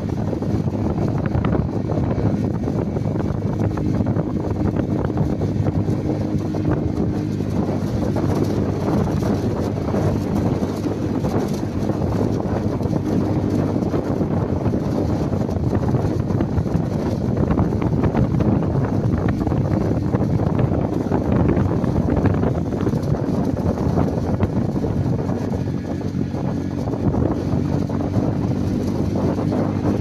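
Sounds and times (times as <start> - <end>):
steady low rumble: 0.0 - 30.0
wind buffeting microphone: 0.0 - 30.0.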